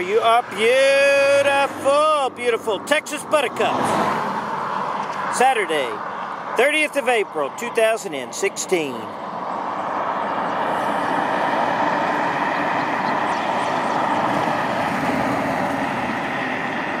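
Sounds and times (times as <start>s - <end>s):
highway traffic rushing: 0.0s - 17.0s.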